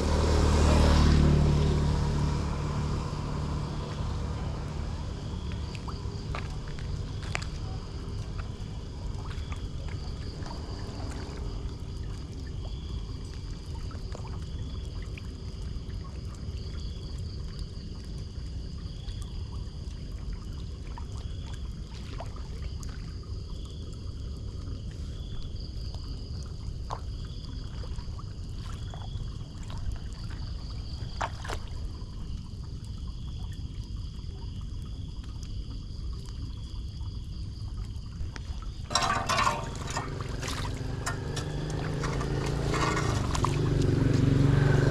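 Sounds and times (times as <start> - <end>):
water pouring into storm drain: 0.0 - 44.9.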